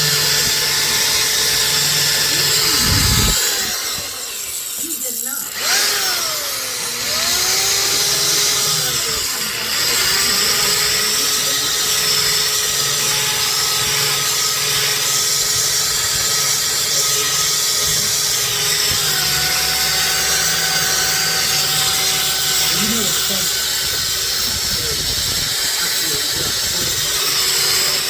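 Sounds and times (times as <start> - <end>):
power tool motor whine: 0.0 - 28.0.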